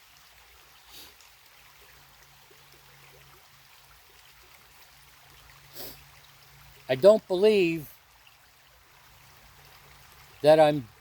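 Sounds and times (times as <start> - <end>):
creek burbling: 0.0 - 11.0.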